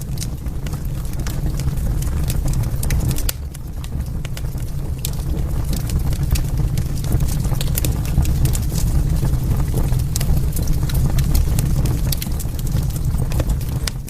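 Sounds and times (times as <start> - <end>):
low rumble: 0.0 - 14.0
wood fire crackling: 0.0 - 14.0.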